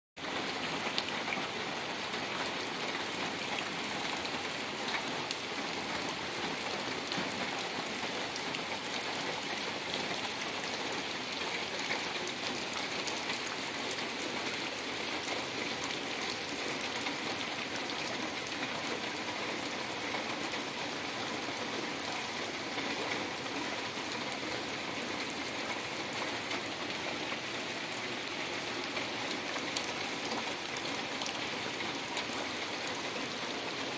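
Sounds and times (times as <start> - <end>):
heavy rain on water: 0.2 - 33.9.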